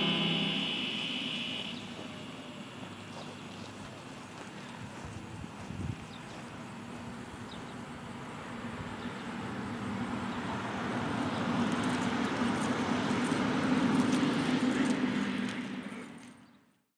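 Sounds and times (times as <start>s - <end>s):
road noise: 0.0s - 16.8s
vehicle engine hum: 0.0s - 16.8s.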